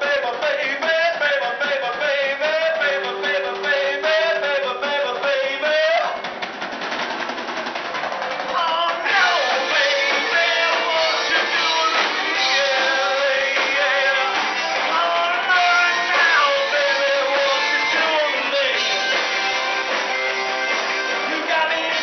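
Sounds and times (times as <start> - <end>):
person singing: 0.0 - 6.2, 8.5 - 19.6, 21.2 - 22.0
drums: 0.0 - 22.0
electric guitar: 0.0 - 22.0
live rock band playing: 0.0 - 22.0.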